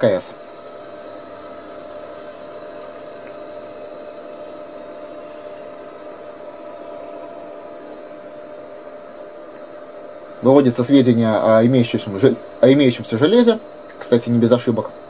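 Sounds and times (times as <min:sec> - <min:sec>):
computer hum: 0:00.0 - 0:15.0
fan and hard disk whine: 0:00.0 - 0:15.0.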